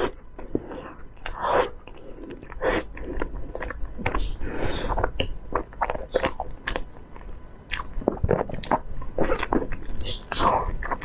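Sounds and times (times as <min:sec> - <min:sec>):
chewing soft cake: 0:00.0 - 0:11.0.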